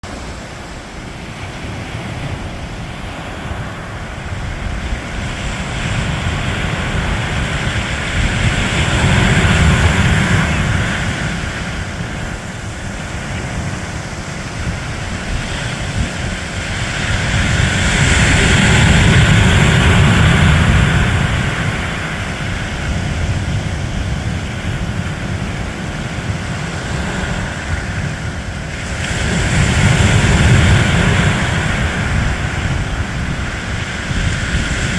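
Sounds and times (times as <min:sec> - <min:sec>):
ocean surf roaring: 0:00.0 - 0:34.9
wind buffeting microphone: 0:00.0 - 0:34.9.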